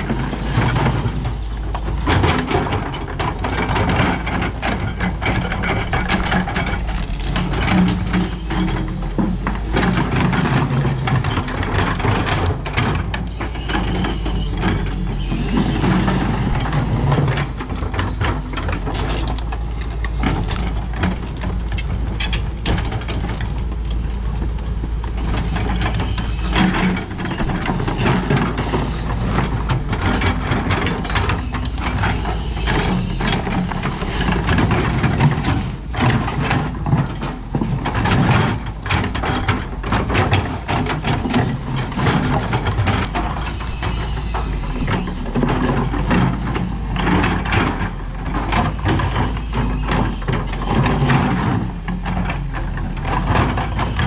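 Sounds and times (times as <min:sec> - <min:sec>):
excavator diesel engine running: 0:00.0 - 0:54.0
metallic clanks and knocks: 0:00.0 - 0:54.0.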